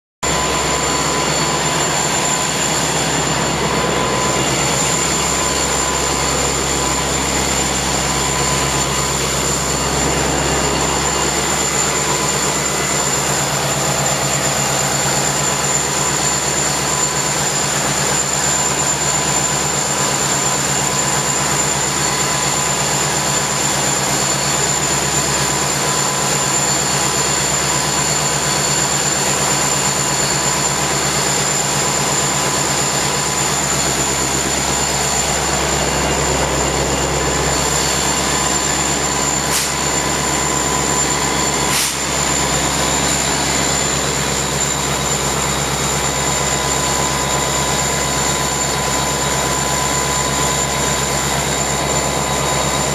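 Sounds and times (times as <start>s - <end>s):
diesel locomotive engine drone: 0.2s - 52.9s
high-pitched whine: 0.2s - 52.9s.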